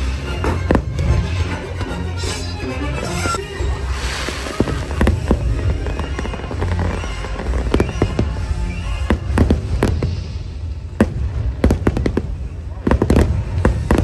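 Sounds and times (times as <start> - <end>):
fireworks bangs and cracks: 0.0 - 1.5, 3.6 - 14.0
music playing: 0.0 - 14.0.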